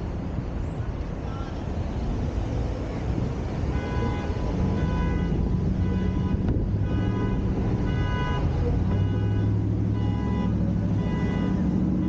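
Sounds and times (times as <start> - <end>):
street traffic rumbling: 0.0 - 12.0.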